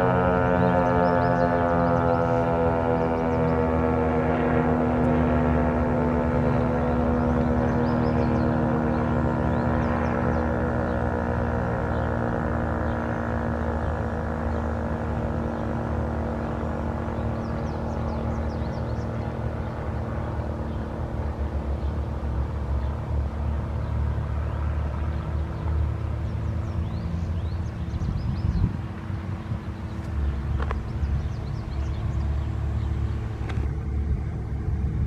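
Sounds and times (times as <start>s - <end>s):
low hum and rumble: 0.0s - 35.0s.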